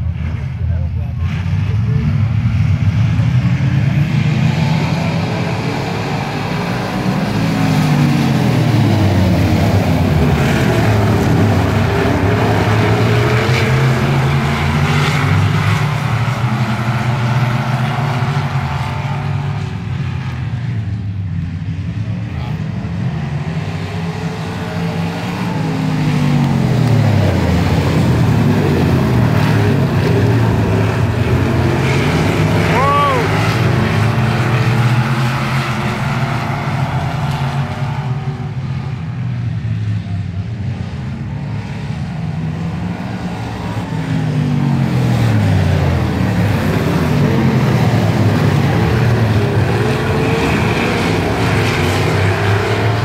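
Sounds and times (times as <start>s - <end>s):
race car engines: 0.0s - 53.0s.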